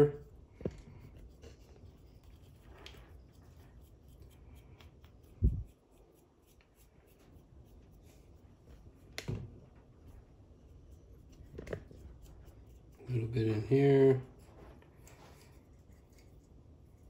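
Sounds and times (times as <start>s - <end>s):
faint rubbing and handling: 0.0s - 17.0s.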